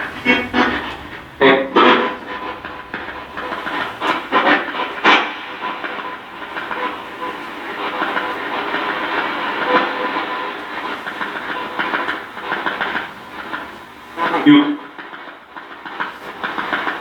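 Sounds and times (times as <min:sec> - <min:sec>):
choppy radio static: 0:00.0 - 0:17.0.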